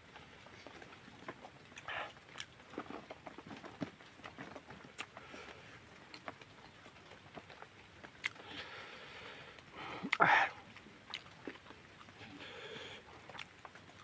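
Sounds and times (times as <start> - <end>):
chewing and lip smacks: 0.6 - 3.4, 4.2 - 8.8, 10.0 - 14.0.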